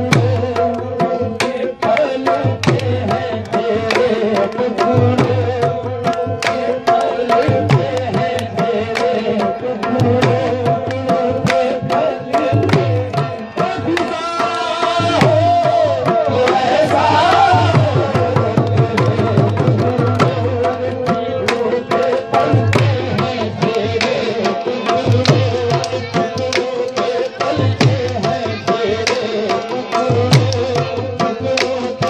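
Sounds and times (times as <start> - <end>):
harmonium chords: 0.0 - 32.0
tabla strokes: 0.0 - 32.0.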